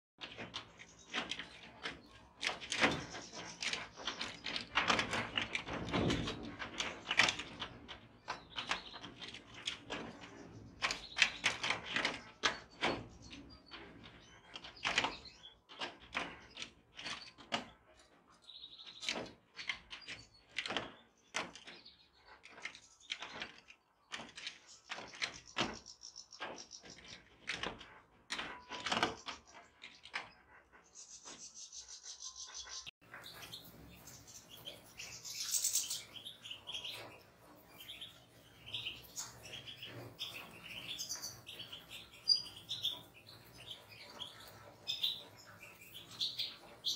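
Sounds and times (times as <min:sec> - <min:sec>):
birds clicking and knocking in cage: 0:00.2 - 0:31.5, 0:32.6 - 0:46.9
birds chirping and twittering: 0:00.2 - 0:46.9.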